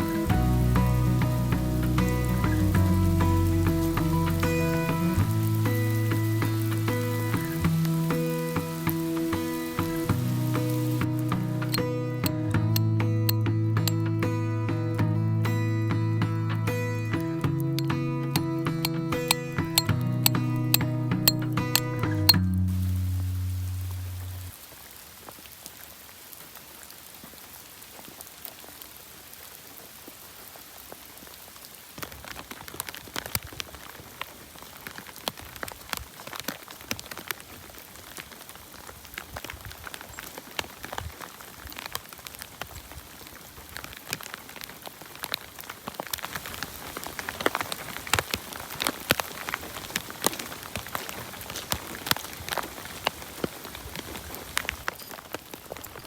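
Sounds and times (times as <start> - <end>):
raindrops tapping on a surface: 0.0 - 14.3, 17.2 - 56.0
rain hissing: 0.0 - 56.0.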